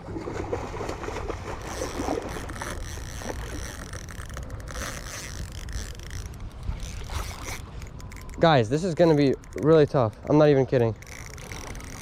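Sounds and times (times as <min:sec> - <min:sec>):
faint rustles and clicks: 0:01.5 - 0:12.0.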